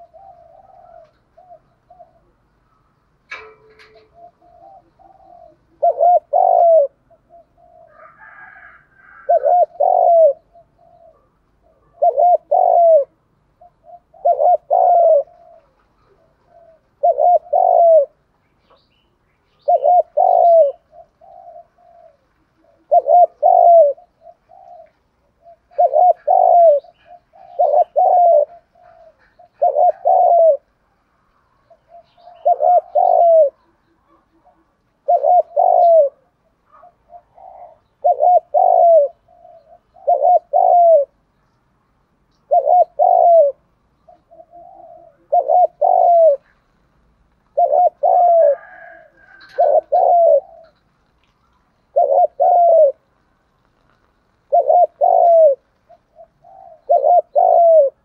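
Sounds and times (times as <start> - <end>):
dove cooing: 0.0 - 41.3, 42.3 - 58.0.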